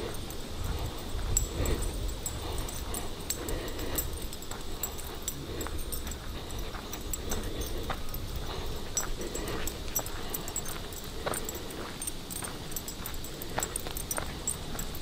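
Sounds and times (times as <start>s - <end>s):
light clicks from walking: 0.0s - 15.0s
steady low rumble: 0.0s - 15.0s.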